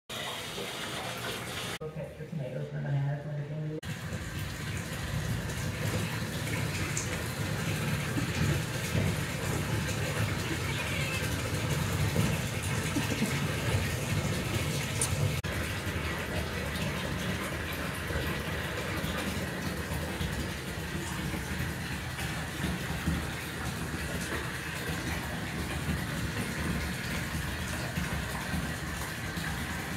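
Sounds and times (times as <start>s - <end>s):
water running into bathtub: 0.1s - 1.8s, 3.8s - 29.9s.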